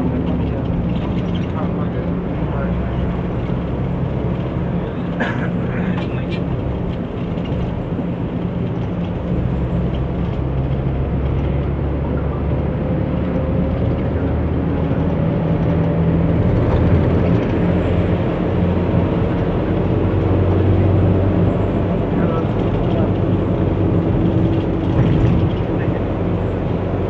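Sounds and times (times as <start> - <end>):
vehicle engine and road hum: 0.0 - 27.0.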